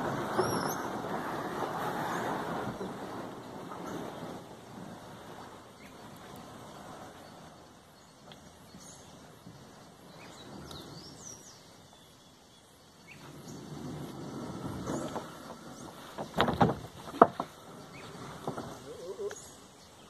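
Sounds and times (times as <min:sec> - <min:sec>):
plastic kayak scraping over dirt: 0:00.0 - 0:11.8, 0:13.1 - 0:19.6
birds chirping: 0:00.0 - 0:20.0.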